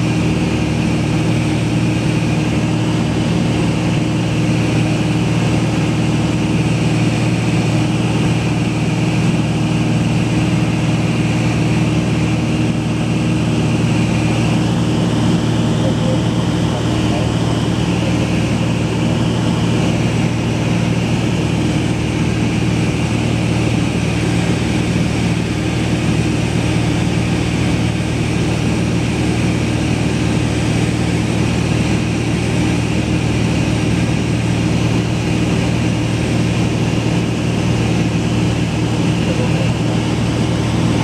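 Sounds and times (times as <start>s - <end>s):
propeller aircraft engine droning: 0.0s - 41.0s.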